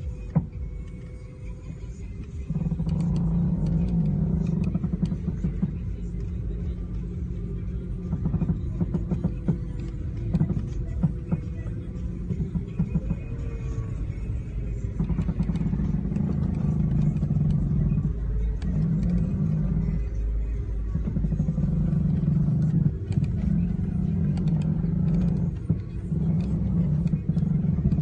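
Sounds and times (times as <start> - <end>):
car creaking groan: 0.0 - 28.0
low rumble: 0.0 - 28.0.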